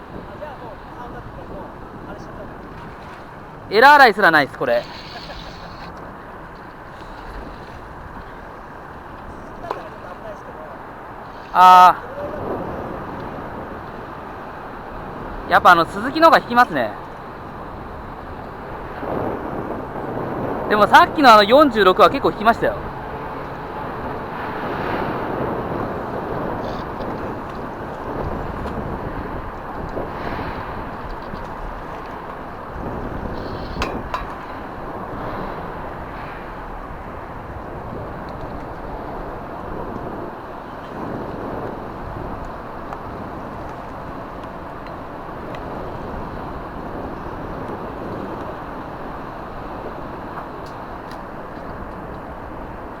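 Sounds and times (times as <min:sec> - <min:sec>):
wind on microphone: 0:00.0 - 0:53.0.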